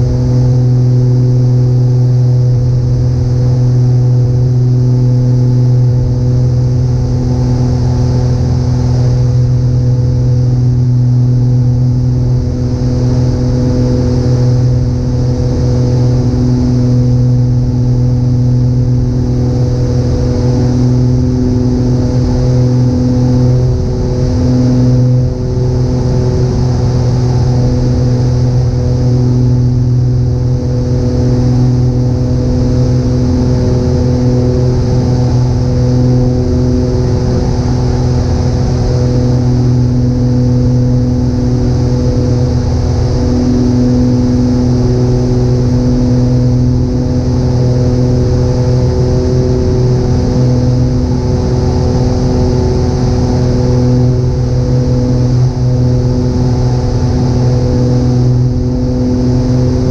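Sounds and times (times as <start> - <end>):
propeller engines droning: 0.0 - 59.9
steady rushing noise: 0.0 - 59.9.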